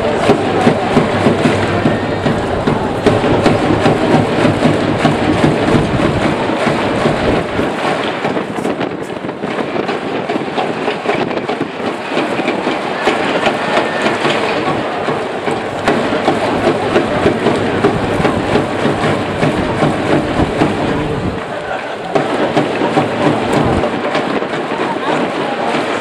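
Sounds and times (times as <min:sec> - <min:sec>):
crowd noise: 0:00.0 - 0:26.0
wind buffeting microphone: 0:00.0 - 0:26.0.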